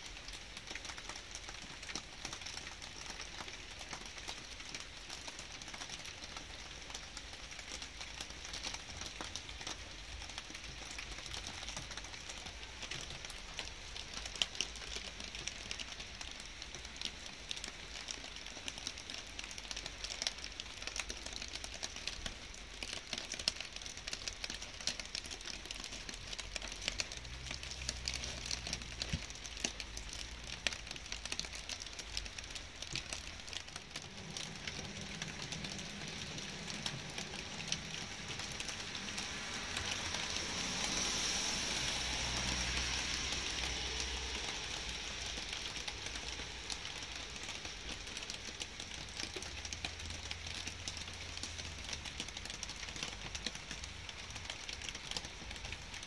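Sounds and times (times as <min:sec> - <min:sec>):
light rain falling: 0:00.0 - 0:56.0
raindrops ticking: 0:00.0 - 0:56.0.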